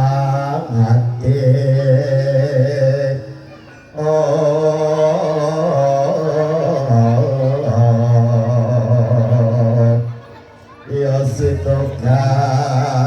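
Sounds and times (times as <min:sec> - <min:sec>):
person chanting sung verse: 0:00.0 - 0:10.3, 0:10.9 - 0:13.0.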